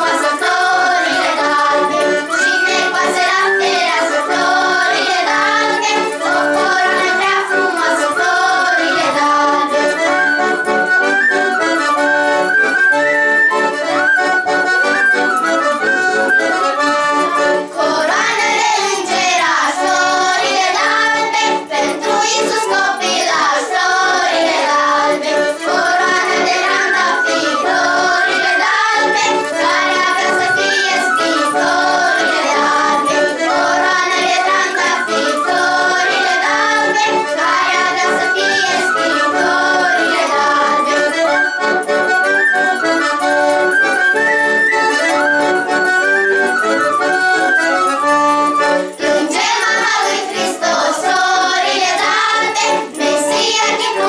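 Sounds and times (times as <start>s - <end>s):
accordion: 0.0s - 54.0s
folk flute: 0.0s - 54.0s.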